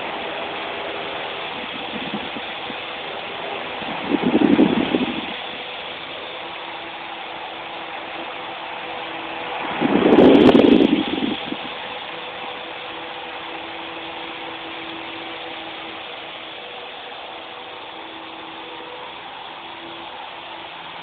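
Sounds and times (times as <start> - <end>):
toy helicopter rotors whirring: 0.0 - 21.0.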